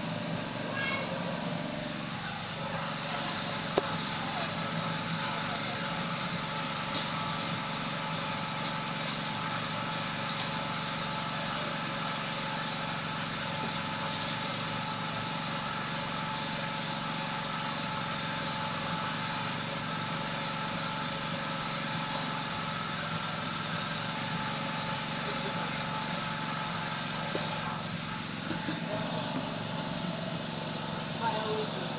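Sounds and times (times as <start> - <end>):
motor humming: 0.0 - 31.9.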